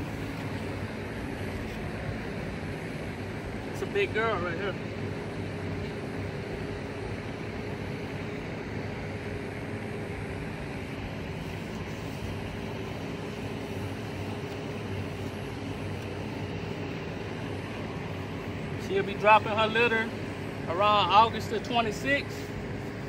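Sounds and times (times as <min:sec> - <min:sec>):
machine drone with low hum: 0:00.0 - 0:23.0.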